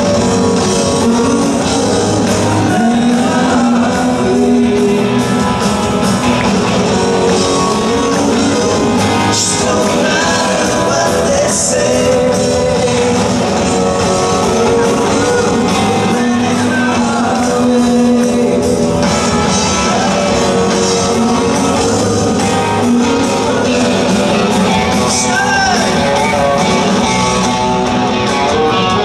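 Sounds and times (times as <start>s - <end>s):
man singing lead vocal: 0.0s - 27.0s
bass guitar: 0.0s - 29.0s
drum kit: 0.0s - 29.0s
electric guitars: 0.0s - 29.0s.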